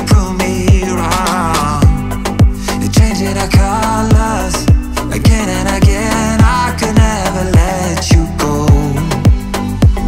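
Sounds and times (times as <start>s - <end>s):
deep bass kick: 0.0s - 10.0s.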